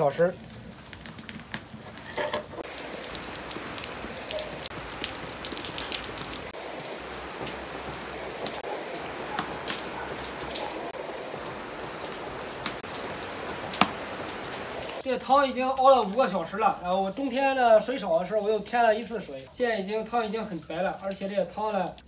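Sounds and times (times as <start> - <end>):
raindrops clicking close by: 0.0 - 22.0
steady rain hiss: 0.0 - 22.0.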